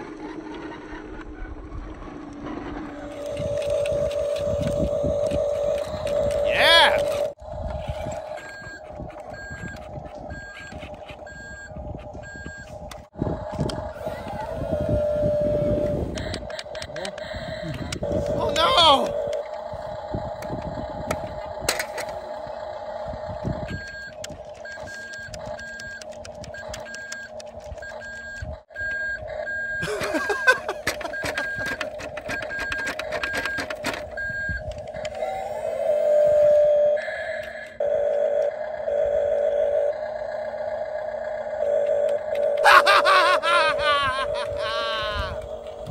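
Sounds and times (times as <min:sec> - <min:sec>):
toy truck motor hum: 0:00.0 - 0:45.9
toy truck reversing beeps: 0:02.1 - 0:45.9.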